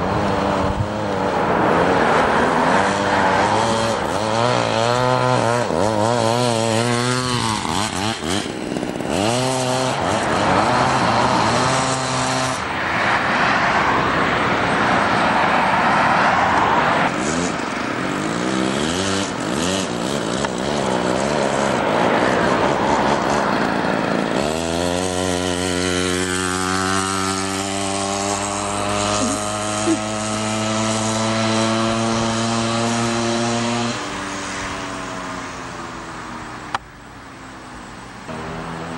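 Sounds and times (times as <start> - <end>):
two-stroke engine revving: 0.0 - 36.8, 38.2 - 38.9.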